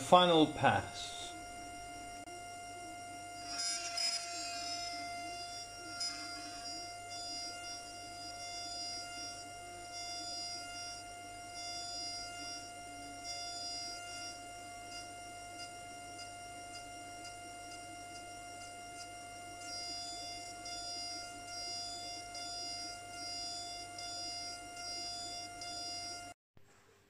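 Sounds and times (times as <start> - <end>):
milling spindle whining: 0.0 - 26.4.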